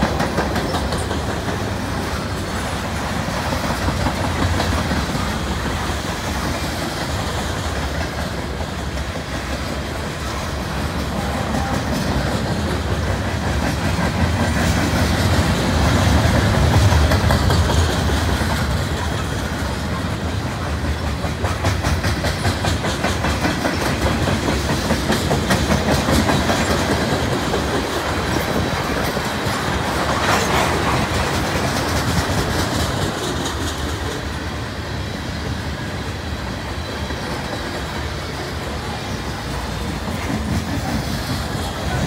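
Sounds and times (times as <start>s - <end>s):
freight train wheels rumbling: 0.0s - 42.0s
wheels clicking over rail joints: 0.0s - 42.0s.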